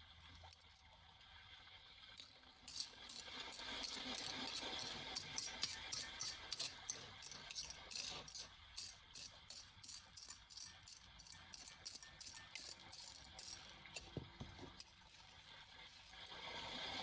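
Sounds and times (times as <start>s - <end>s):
small hard objects rattling: 2.7s - 17.0s.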